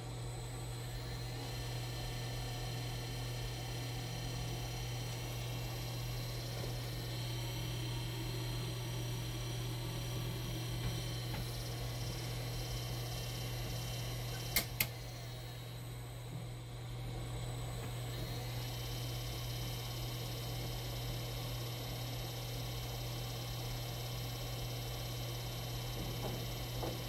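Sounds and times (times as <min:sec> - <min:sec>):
electric motor humming and whining: 0:00.0 - 0:27.0.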